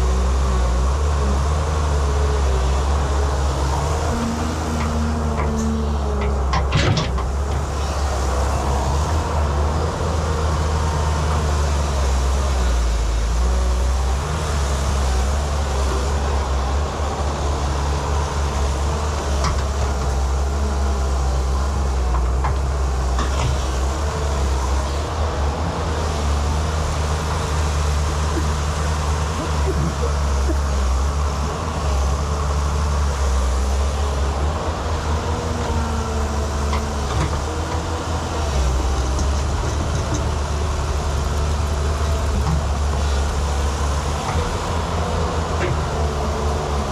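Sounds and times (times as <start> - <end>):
excavator engine running: 0.0 - 46.9.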